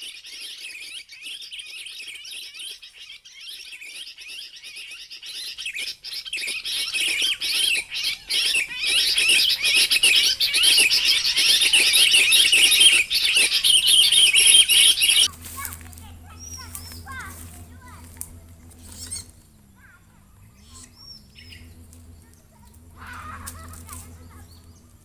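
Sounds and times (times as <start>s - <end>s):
bird chattering calls: 3.8s - 25.0s.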